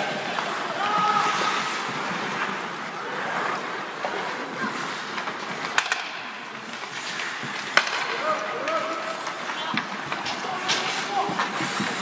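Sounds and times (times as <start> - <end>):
crowd chatter: 0.0 - 12.0
skates on ice: 0.0 - 12.0.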